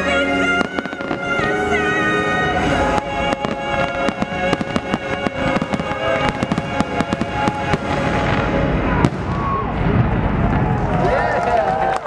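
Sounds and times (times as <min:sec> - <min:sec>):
fireworks bangs and crackles: 0:00.1 - 0:12.0.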